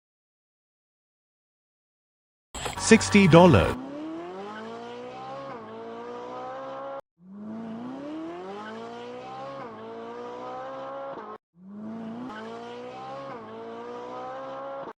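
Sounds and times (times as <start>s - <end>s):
racing car engine revving: 2.8s - 14.9s.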